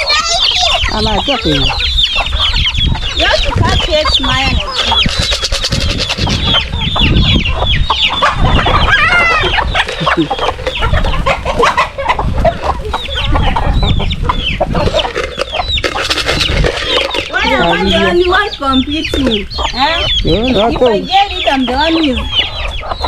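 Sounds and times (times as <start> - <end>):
chickens clucking and squawking: 0.0 - 23.0.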